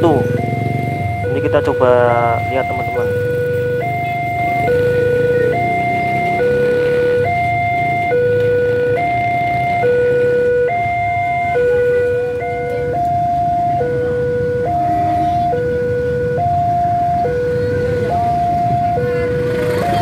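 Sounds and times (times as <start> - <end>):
level crossing two-tone alarm: 0.0 - 20.0.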